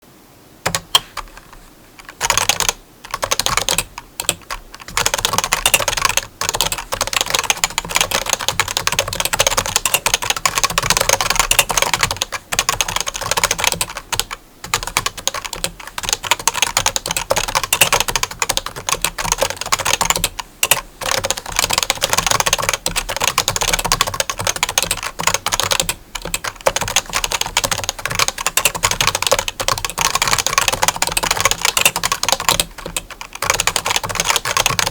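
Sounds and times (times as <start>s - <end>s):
fast keyboard typing: 0.7s - 34.9s.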